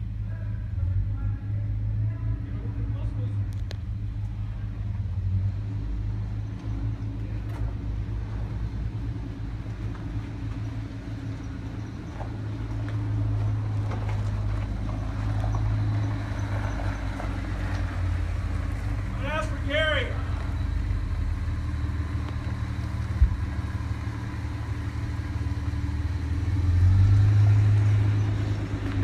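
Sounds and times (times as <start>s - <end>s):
truck engines idling: 0.0s - 29.0s
vehicle driving over gravel: 3.0s - 29.0s.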